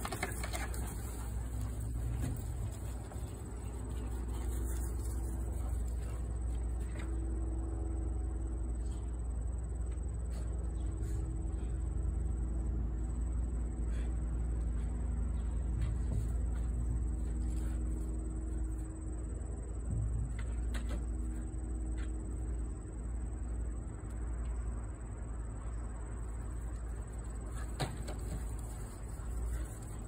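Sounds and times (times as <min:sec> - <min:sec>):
faint droning hum: 0:00.0 - 0:30.0
low outdoor rumble: 0:00.0 - 0:30.0.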